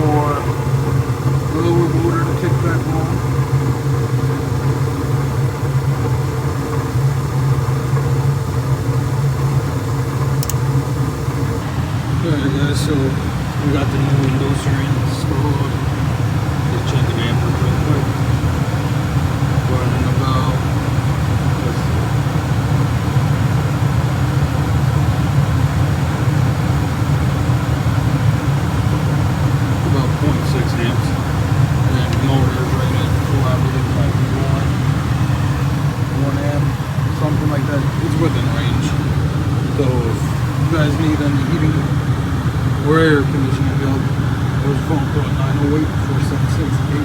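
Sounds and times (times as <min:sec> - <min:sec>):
furnace motor humming: 0:00.0 - 0:47.0.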